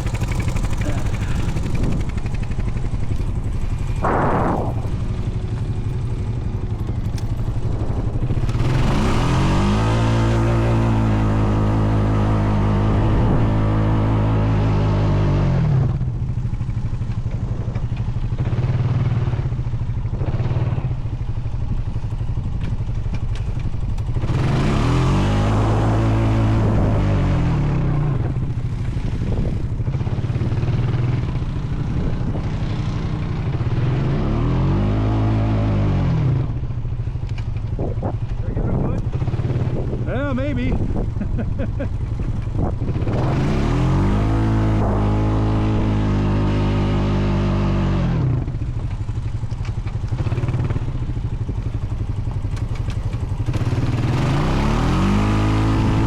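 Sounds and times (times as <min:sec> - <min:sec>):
atv engine running under load: 0:00.0 - 0:56.0.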